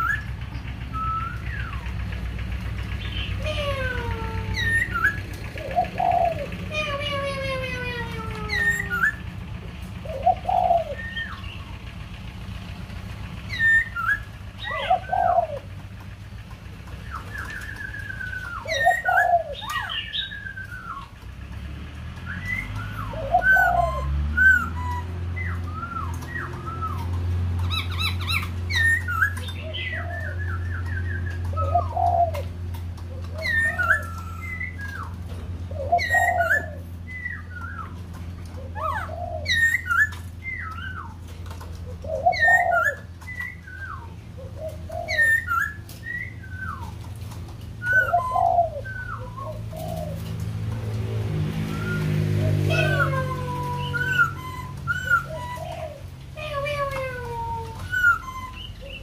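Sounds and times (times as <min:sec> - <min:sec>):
laughingthrush singing whistled phrases: 0:00.0 - 0:02.2, 0:02.9 - 0:07.6, 0:08.4 - 0:11.8, 0:13.4 - 0:15.7, 0:17.0 - 0:21.2, 0:22.2 - 0:32.4, 0:33.3 - 0:38.0, 0:38.8 - 0:41.2, 0:42.1 - 0:47.0, 0:47.8 - 0:49.8, 0:51.6 - 0:59.0.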